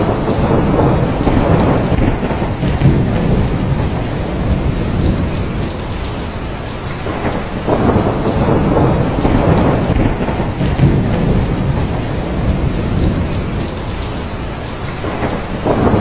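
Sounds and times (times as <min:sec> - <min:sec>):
steady heavy rain: 0:00.0 - 0:16.0
thunder rumbling: 0:00.0 - 0:16.0.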